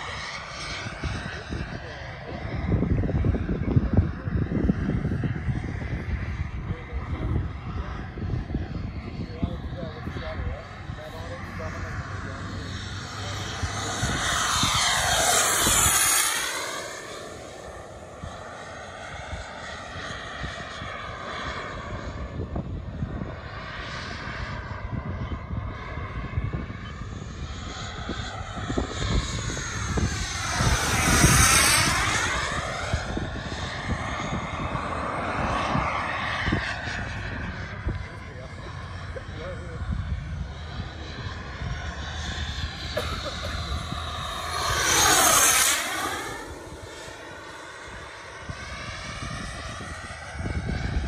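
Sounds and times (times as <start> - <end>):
jet turbine whining past: 0.0 - 51.0.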